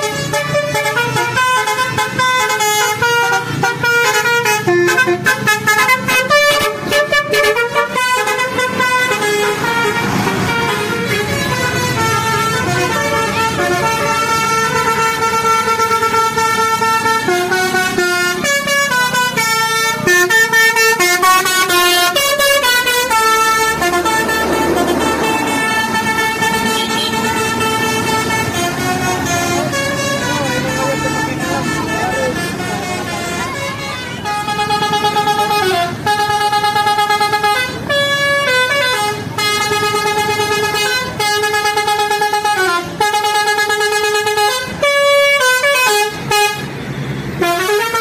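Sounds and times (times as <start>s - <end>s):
bus horn playing a tune: 0.0s - 48.0s.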